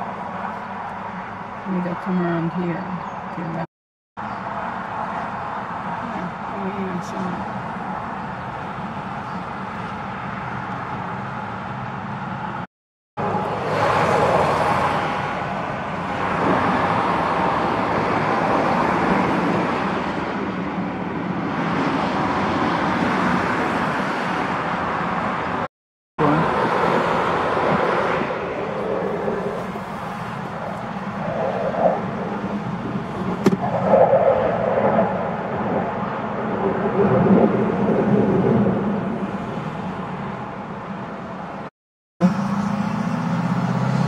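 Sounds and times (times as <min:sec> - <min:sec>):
car road and tyre noise: 0:00.0 - 0:44.0.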